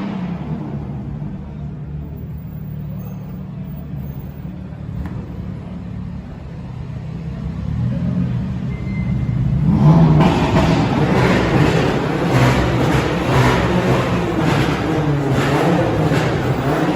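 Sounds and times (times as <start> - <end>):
car engine rumbling and revving: 0.0 - 16.9.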